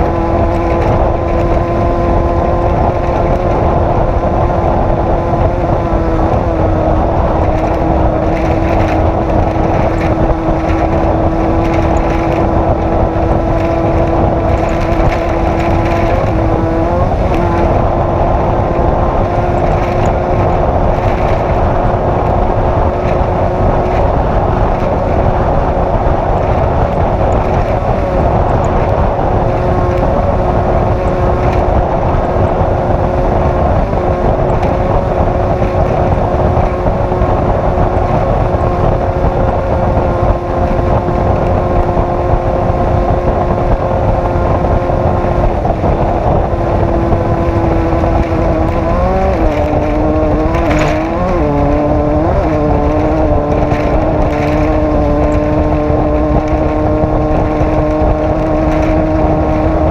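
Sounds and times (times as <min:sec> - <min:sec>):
engine running hard: 0:00.0 - 0:59.9
wind rush: 0:00.0 - 0:59.9.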